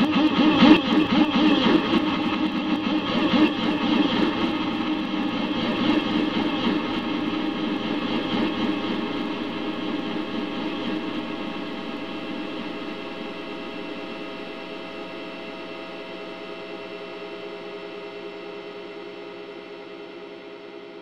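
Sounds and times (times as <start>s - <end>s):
dense gong-like keyboard drone: 0.0s - 20.1s.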